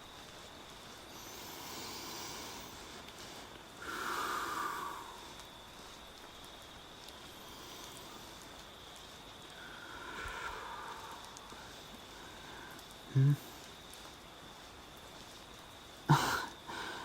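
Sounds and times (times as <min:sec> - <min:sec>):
faint steady hiss: 0:00.0 - 0:17.0
man breathing slowly: 0:00.2 - 0:06.1, 0:07.0 - 0:14.6, 0:16.1 - 0:17.0.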